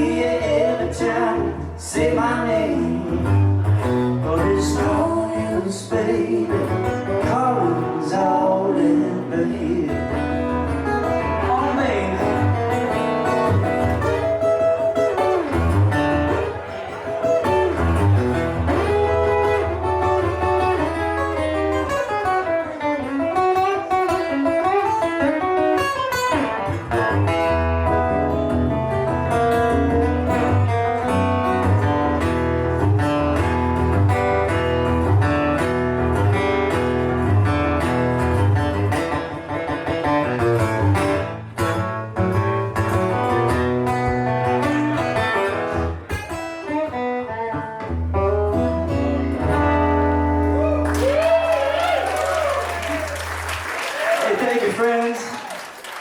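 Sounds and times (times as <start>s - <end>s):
blues guitar with bent notes: 0.0s - 53.6s.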